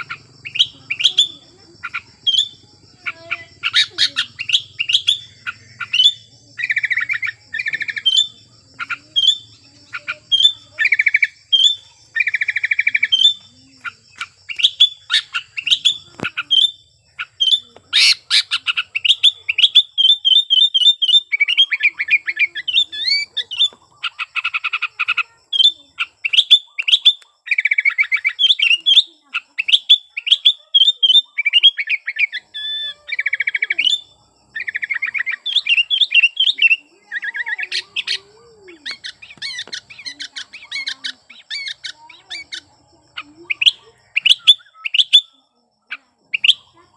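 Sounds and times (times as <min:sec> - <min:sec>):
bird chirping and trilling: 0:00.0 - 0:46.9.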